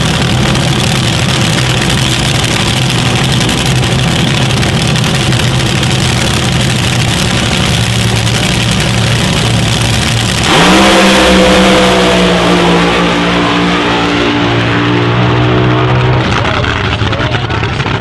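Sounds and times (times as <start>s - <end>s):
dragster engines rumbling: 0.0s - 18.0s
dragsters launching blast: 0.0s - 18.0s.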